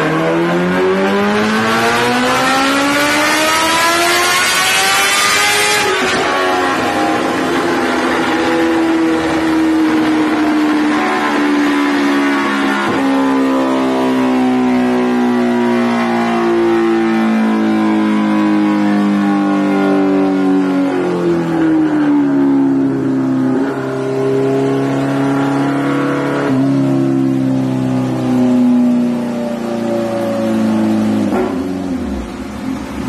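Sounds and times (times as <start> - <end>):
motorcycle engine revving on dyno: 0.0 - 33.0.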